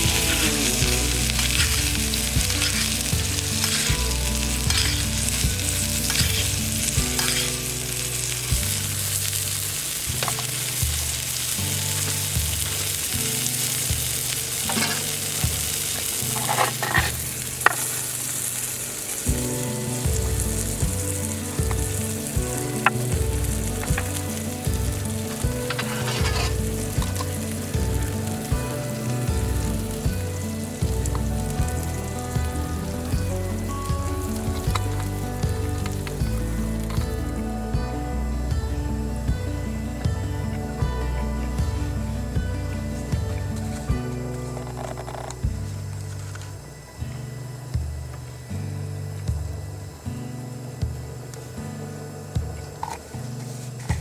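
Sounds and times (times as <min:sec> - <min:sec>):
steak sizzling: 0:00.0 - 0:54.0.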